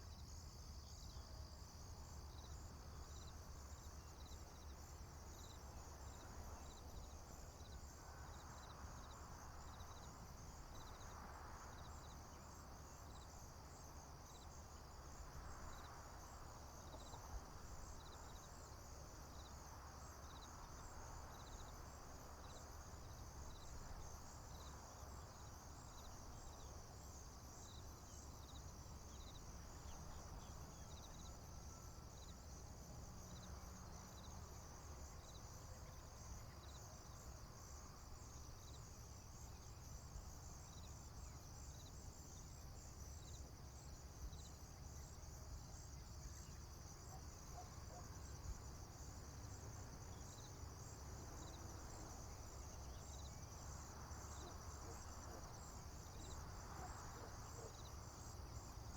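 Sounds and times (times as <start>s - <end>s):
crickets and insects chirping: 0.0s - 58.9s.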